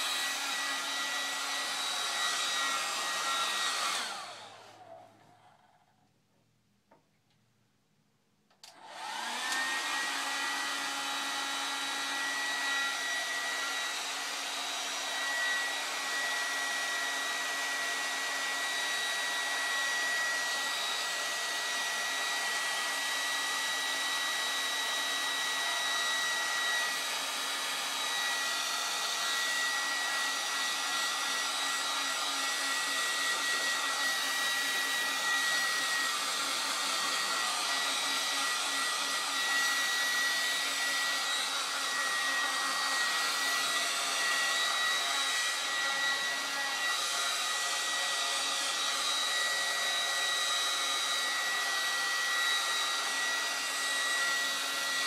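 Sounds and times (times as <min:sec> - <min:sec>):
hair dryer motor whine: 0:00.0 - 0:05.5, 0:08.5 - 0:55.0.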